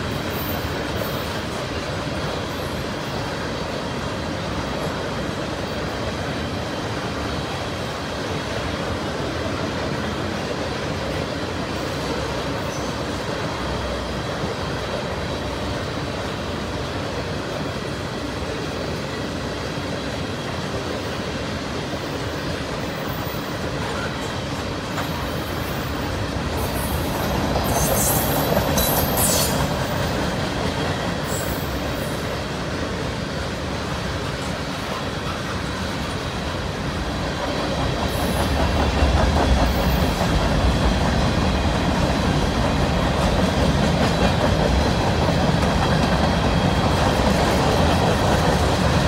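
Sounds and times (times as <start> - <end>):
train wheels rumbling and clattering: 0.0 - 49.0.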